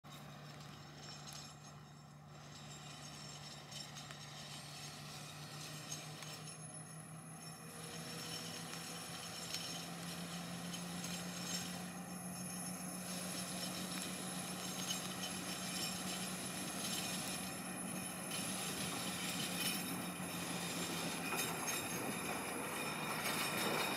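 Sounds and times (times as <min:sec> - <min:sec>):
diesel locomotive engine hum: 0:00.0 - 0:23.9.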